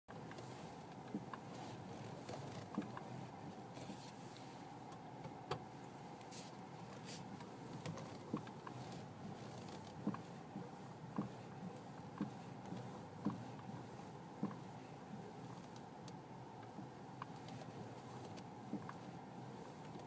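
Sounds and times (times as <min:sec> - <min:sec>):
steady vehicle noise: 0:00.1 - 0:20.0.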